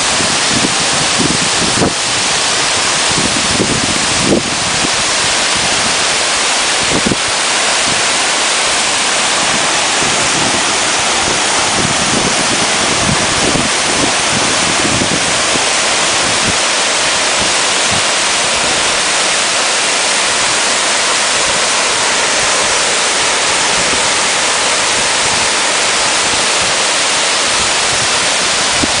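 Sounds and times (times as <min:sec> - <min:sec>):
waterfall rushing: 0:00.0 - 0:29.0
wind buffeting microphone: 0:00.0 - 0:29.0.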